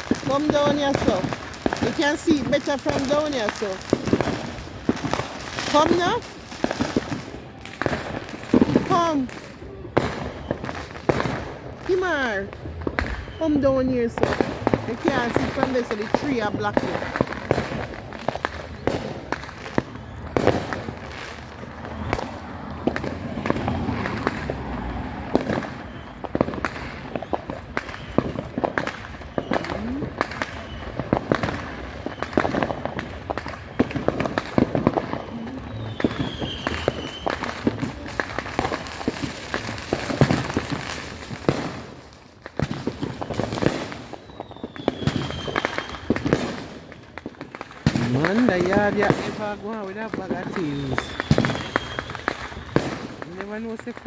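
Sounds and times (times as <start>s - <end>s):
fireworks banging and crackling: 0.0s - 54.0s.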